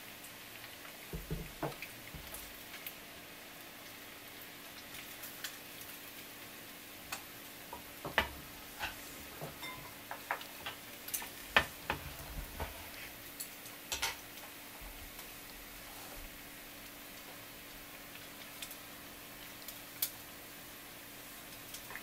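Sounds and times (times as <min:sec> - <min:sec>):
oil popping and crackling: 0:00.0 - 0:22.0
tempura sizzling in oil: 0:00.0 - 0:22.0.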